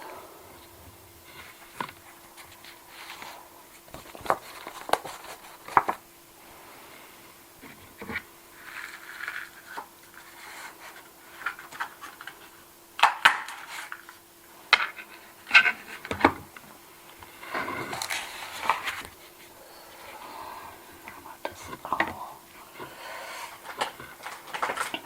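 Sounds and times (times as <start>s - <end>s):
rustling: 0.0s - 25.0s.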